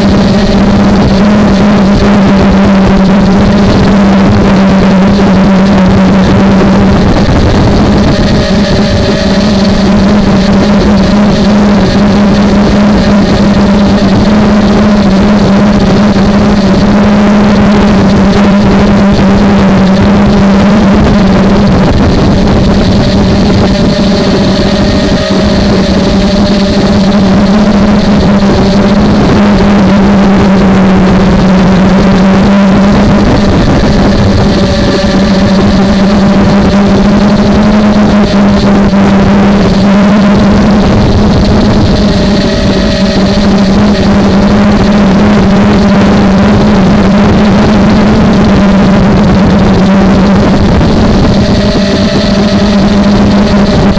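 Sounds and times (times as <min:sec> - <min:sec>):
quadcopter motors buzzing: 0:00.0 - 0:53.9.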